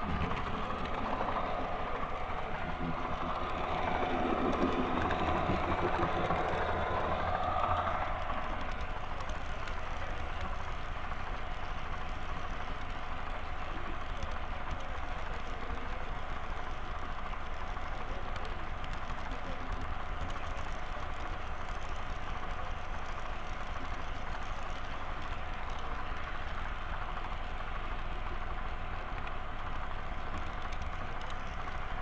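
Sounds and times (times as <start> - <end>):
model train running on rails: 0.0 - 32.0.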